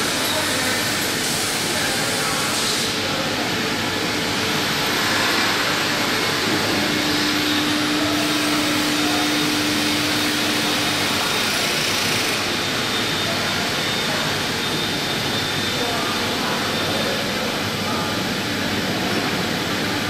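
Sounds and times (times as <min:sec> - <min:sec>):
fan blowing rush: 0:00.0 - 0:20.0.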